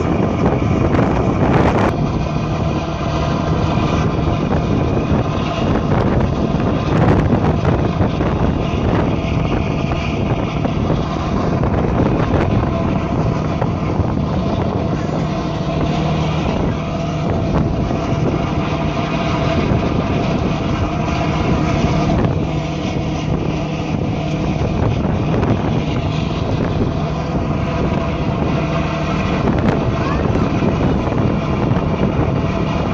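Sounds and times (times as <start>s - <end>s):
boat engine droning: 0.0s - 32.9s
wind buffeting microphone: 0.0s - 32.9s.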